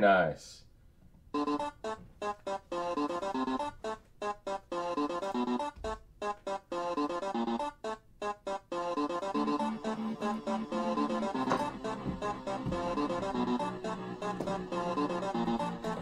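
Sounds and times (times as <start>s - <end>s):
electronic music with keyboard chords: 1.3s - 16.0s.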